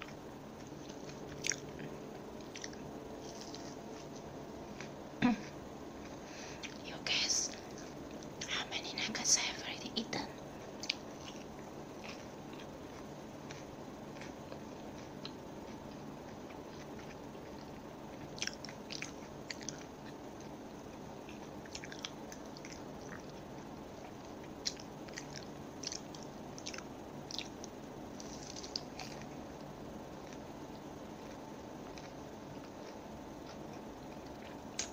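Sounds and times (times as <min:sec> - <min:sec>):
chewing crispy food: 0:00.0 - 0:06.9, 0:10.6 - 0:34.9
steady low hiss: 0:00.0 - 0:34.9.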